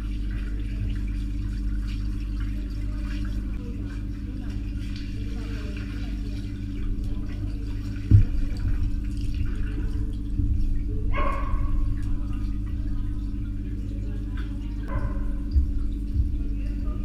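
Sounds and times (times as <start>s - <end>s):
low hum: 0.0s - 17.0s
underwater sloshing and bubbling: 0.0s - 17.0s.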